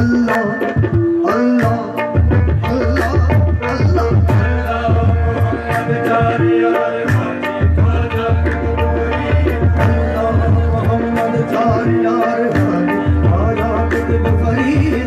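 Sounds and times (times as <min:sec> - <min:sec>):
hand drums beating: 0:00.0 - 0:15.0
live folk music: 0:00.0 - 0:15.0.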